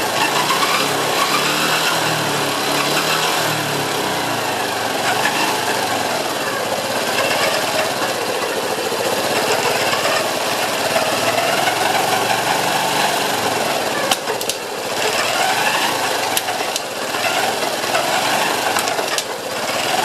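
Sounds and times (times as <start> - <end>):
motorcycle engine running: 0.0 - 20.0
rapid mechanical rattle: 0.0 - 20.0.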